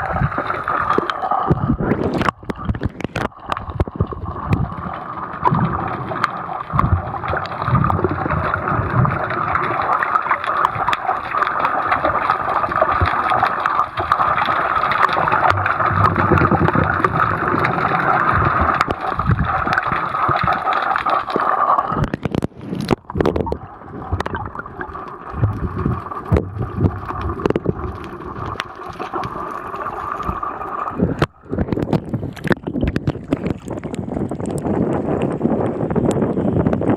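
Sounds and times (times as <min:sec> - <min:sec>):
choppy water at surface: 0:00.0 - 0:36.9
water gurgling underwater: 0:00.0 - 0:36.9.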